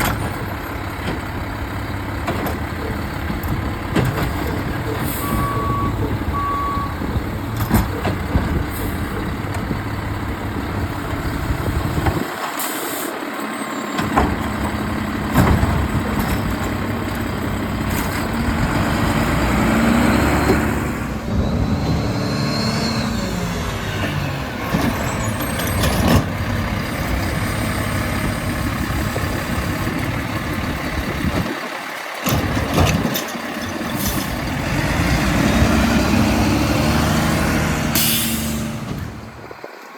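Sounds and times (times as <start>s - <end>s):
garbage truck diesel engine: 0.0s - 39.9s
rear-loader packer working: 0.0s - 39.9s.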